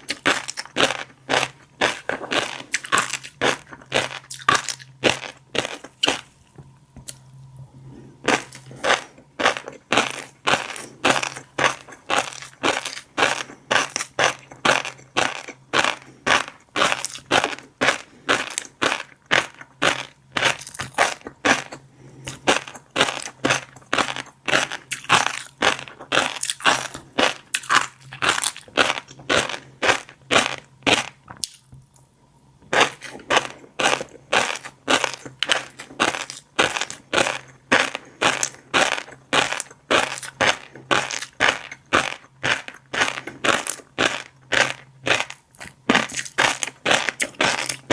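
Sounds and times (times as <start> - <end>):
chewing crunchy fish roe: 0.0 - 32.1, 32.7 - 47.9.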